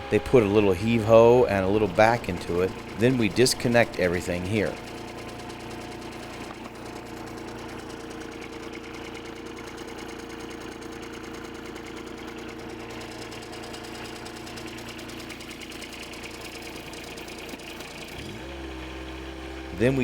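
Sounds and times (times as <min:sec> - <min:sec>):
loader engine idling: 0:00.0 - 0:20.0.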